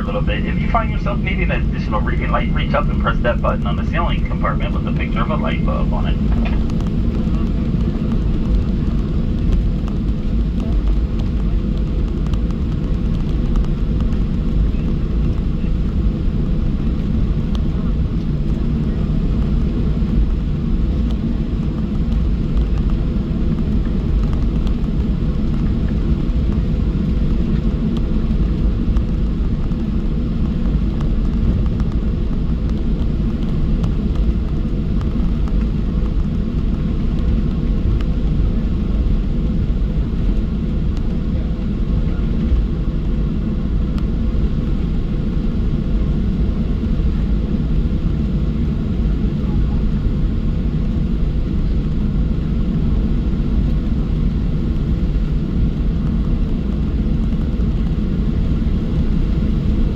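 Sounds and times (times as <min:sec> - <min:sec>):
aircraft cabin low rumble: 0:00.0 - 0:59.9.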